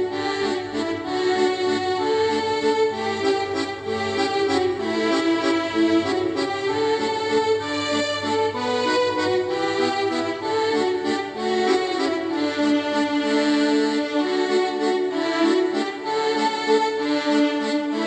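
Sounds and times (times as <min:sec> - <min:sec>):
instrumental background music: 0:00.0 - 0:17.9.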